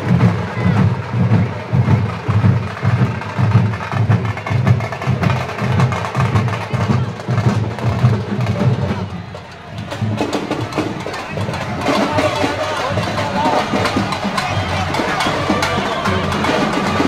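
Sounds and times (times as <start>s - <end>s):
barrel drums beating: 0.0s - 17.0s
crowd noise: 0.0s - 17.0s.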